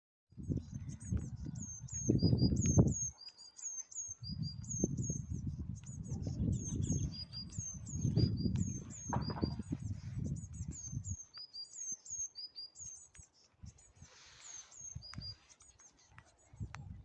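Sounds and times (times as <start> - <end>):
small songbirds chirping: 0.3 - 17.0.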